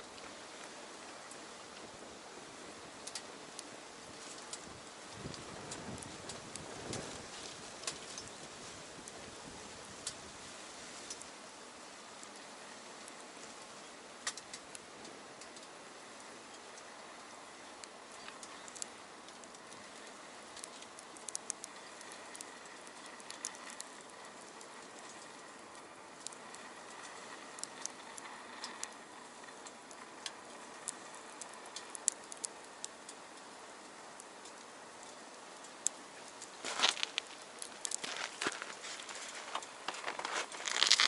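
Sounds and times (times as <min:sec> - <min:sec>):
stove fire hiss: 0:00.0 - 0:41.0
wood fire crackling and popping: 0:00.0 - 0:41.0.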